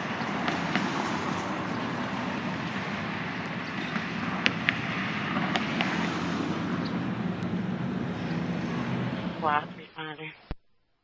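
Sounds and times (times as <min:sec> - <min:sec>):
vehicle engine running: 0:00.0 - 0:09.8
road and traffic noise: 0:00.0 - 0:09.9.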